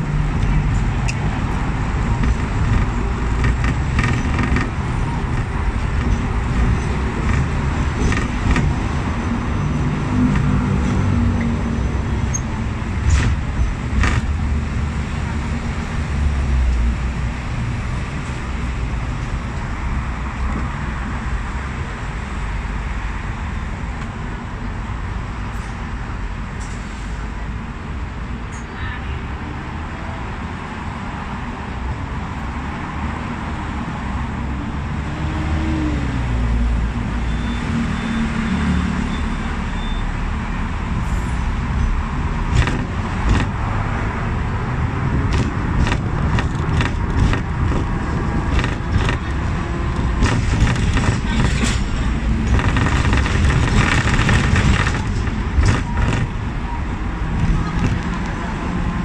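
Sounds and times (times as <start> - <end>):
tram wheels rumbling on rails: 0.0 - 28.8, 29.6 - 59.0.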